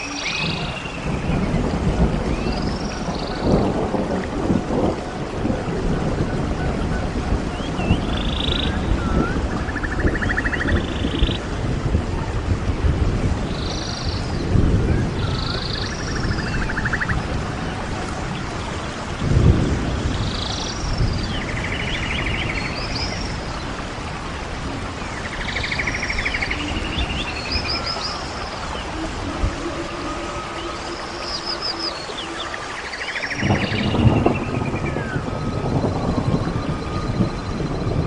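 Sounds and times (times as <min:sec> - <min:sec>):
birds calling in buzzy trills: 0:00.0 - 0:03.9, 0:06.3 - 0:11.5, 0:13.4 - 0:38.0
wind rumble and gusts: 0:00.0 - 0:38.0.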